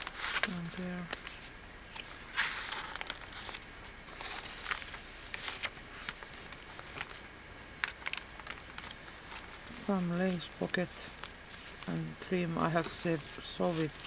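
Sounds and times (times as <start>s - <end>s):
paper pages rustling: 0.0s - 14.0s.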